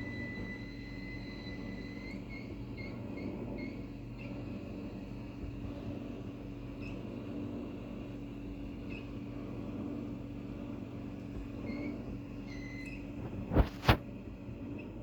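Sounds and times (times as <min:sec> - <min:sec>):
dishwasher droning hum: 0:00.0 - 0:15.0.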